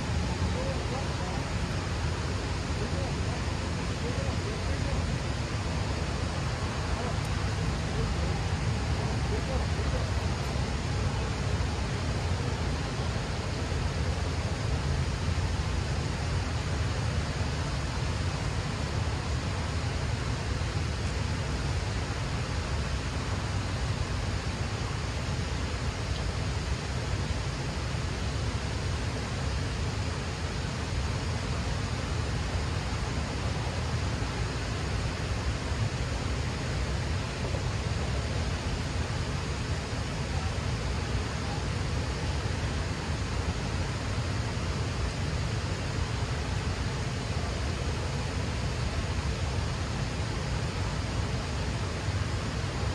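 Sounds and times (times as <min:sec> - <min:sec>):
water rushing below a dam: 0:00.0 - 0:52.9.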